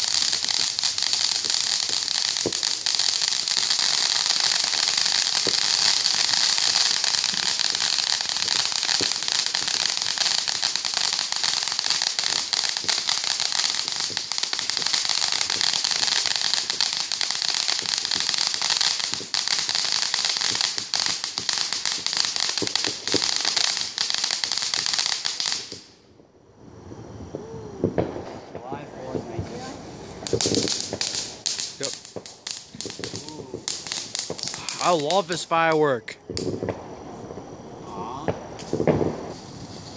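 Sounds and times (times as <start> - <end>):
fireworks crackling and hissing: 0.0 - 39.9.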